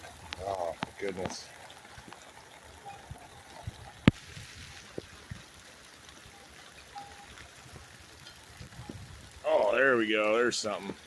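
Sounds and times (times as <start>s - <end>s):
raindrops tapping on phone: 0.0s - 11.0s
steady rain: 0.0s - 11.0s
water trickling: 0.0s - 11.0s.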